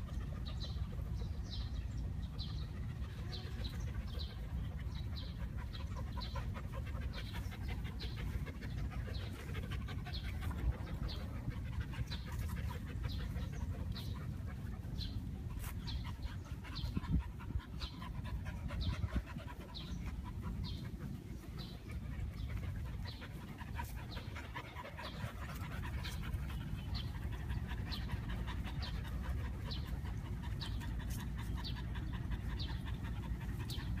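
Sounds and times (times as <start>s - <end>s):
dogs panting: 0.0s - 34.0s.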